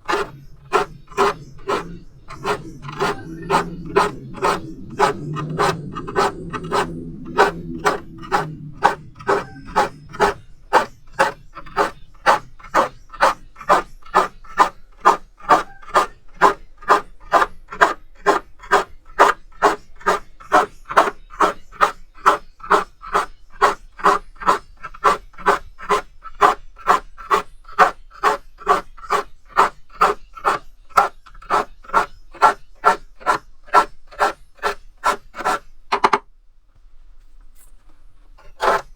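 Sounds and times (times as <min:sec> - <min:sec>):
file rasping saw teeth: 0:00.0 - 0:36.2, 0:38.4 - 0:38.9.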